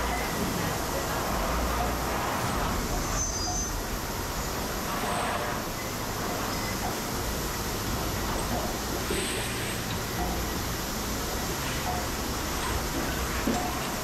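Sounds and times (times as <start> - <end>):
machinery and ventilation rush: 0.0 - 14.0.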